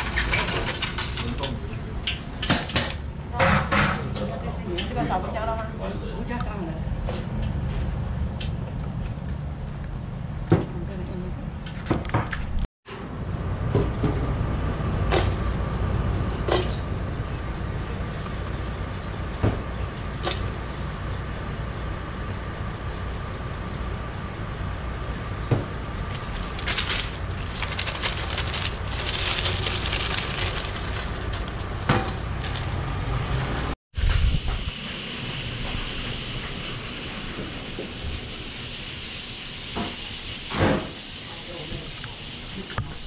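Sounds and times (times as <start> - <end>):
low kitchen rumble: 0.0 - 43.0.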